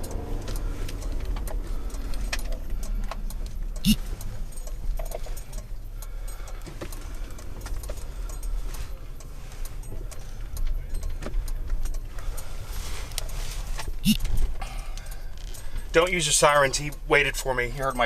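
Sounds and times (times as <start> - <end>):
small clicks and rattles: 0.0 - 16.9
car engine rumbling: 0.0 - 18.0.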